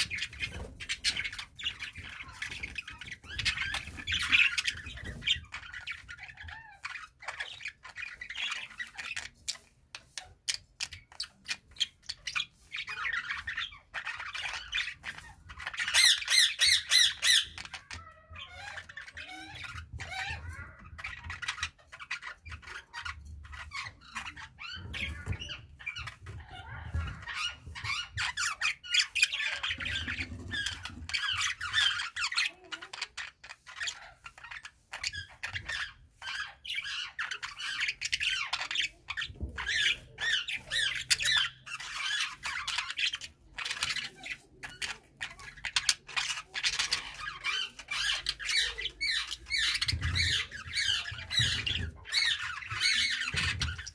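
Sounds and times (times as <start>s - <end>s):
budgerigars chattering and warbling: 0.0s - 53.9s.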